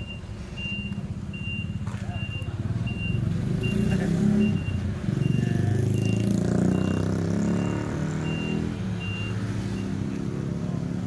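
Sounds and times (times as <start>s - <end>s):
reversing alarm beeping: 0.0s - 10.0s.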